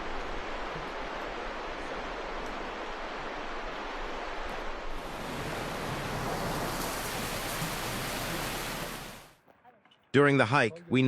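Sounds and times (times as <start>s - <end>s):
river water rushing: 0.1s - 9.4s.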